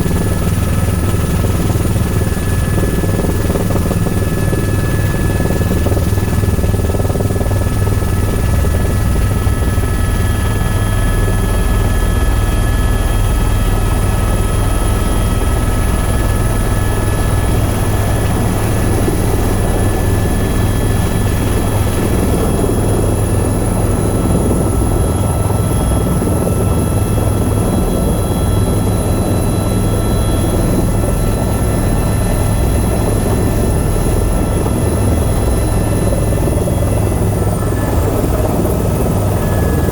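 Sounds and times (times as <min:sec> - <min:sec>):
helicopter rotor and engine drone: 0:00.0 - 0:39.9
high-pitched turbine whine: 0:00.0 - 0:39.9.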